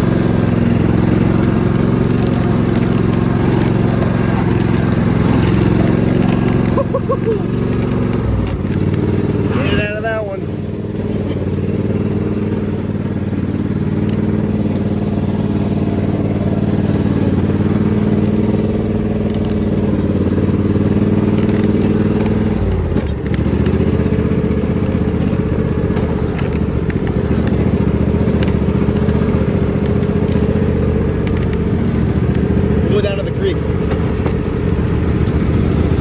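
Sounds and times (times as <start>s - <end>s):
riding lawn mower engine: 0.0s - 36.0s.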